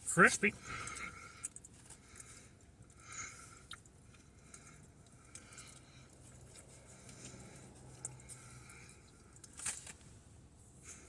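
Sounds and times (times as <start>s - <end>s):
person chewing: 0.6s - 10.0s.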